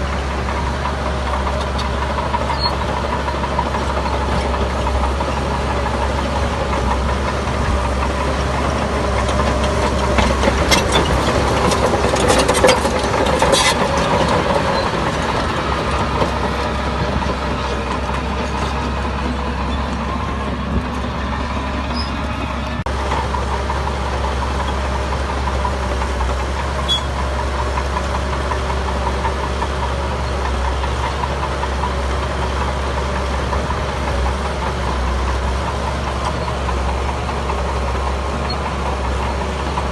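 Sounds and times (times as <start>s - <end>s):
diesel construction machinery running: 0.0s - 39.9s.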